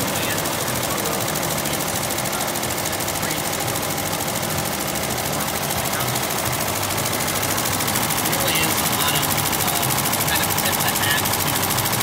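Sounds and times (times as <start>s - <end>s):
embroidery machine clatter: 0.0s - 12.0s.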